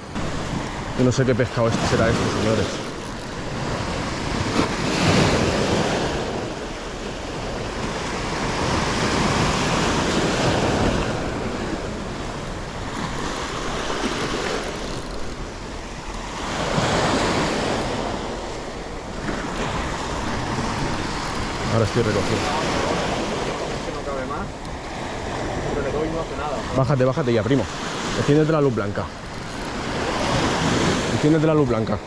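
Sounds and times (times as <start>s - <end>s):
wind on microphone: 0.0s - 23.9s, 27.7s - 31.4s
sea waves breaking: 0.0s - 32.0s.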